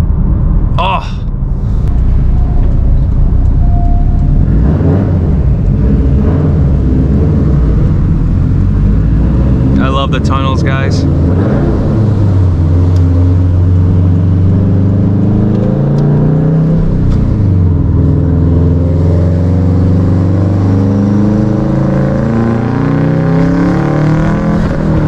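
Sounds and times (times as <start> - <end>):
turbocharged car engine revving: 1.4 - 25.0.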